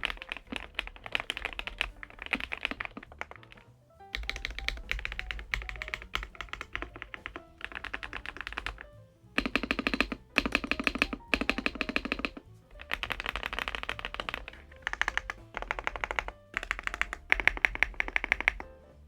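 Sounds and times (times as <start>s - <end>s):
mechanical keyboard key clacks: 0.0s - 3.6s, 4.2s - 18.7s
background music: 0.0s - 19.0s.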